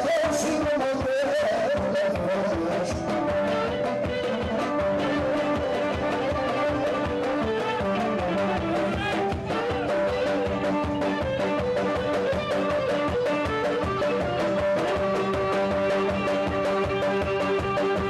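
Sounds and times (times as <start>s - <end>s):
lute strumming: 0.0s - 18.0s.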